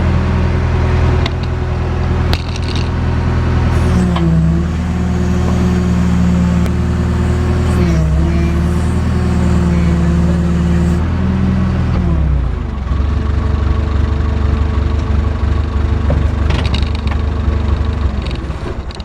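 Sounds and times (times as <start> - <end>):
diesel engine revving and idling: 0.0 - 19.0.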